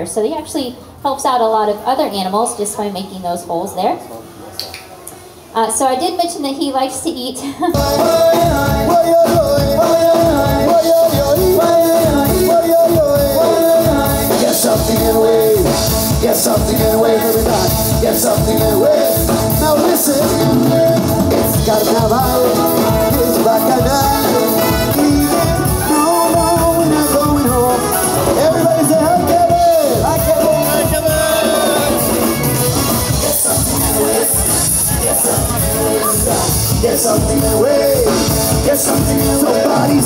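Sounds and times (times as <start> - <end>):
live latin band playing: 7.7 - 40.0
person singing: 7.8 - 40.0.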